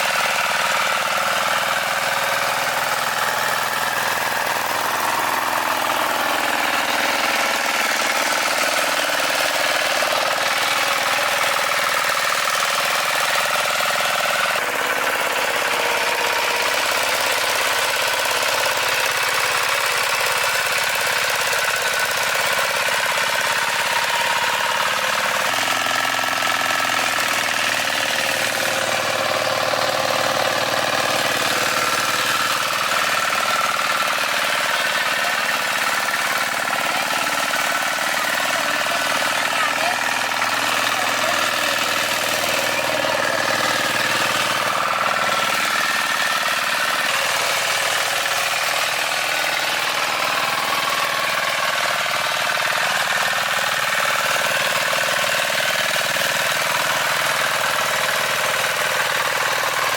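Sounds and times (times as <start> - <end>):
farm machine engine chugging: 0.0 - 59.9.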